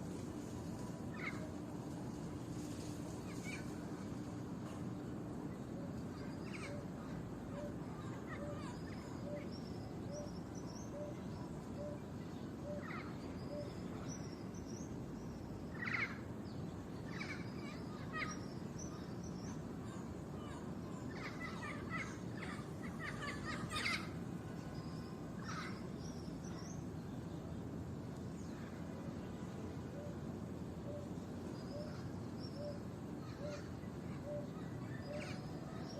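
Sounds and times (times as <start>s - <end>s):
low outdoor background hum: 0.0s - 35.9s
wild birds calling: 0.2s - 4.3s, 6.0s - 14.4s, 15.6s - 16.3s, 17.0s - 26.8s, 29.9s - 35.9s.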